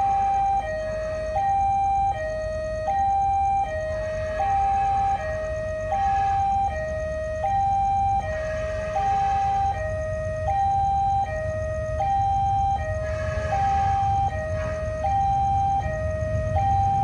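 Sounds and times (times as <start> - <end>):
level crossing alarm ding-dong: 0.0 - 17.0.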